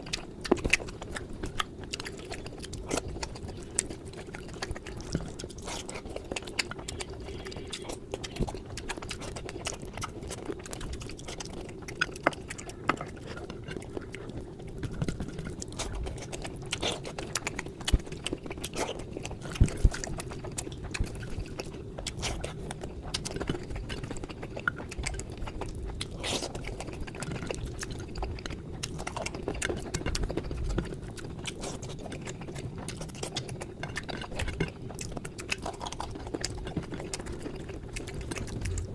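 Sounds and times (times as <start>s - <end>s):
chewing and mouth clicks: 0.0s - 38.9s
faint steady hum: 0.0s - 38.9s.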